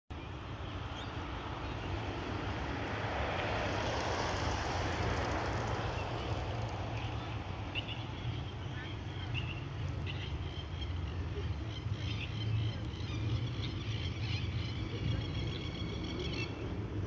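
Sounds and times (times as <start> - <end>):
outdoor rumble and hiss: 0.1 - 17.0.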